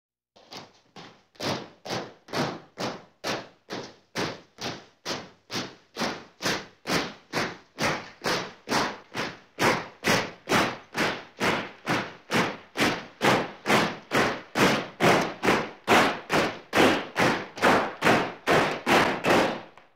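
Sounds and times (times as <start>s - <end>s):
marching feet stomping: 0.4s - 19.9s.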